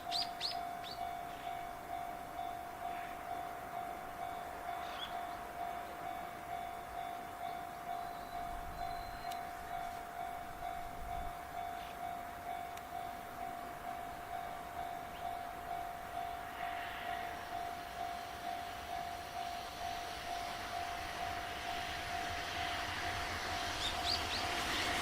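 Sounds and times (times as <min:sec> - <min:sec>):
level crossing warning bell: 0:00.0 - 0:25.0.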